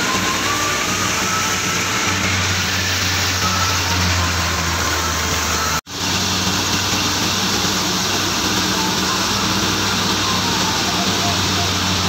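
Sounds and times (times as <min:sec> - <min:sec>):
threshing drum whirring: 0:00.0 - 0:12.0
tractor engine drone: 0:00.0 - 0:12.0.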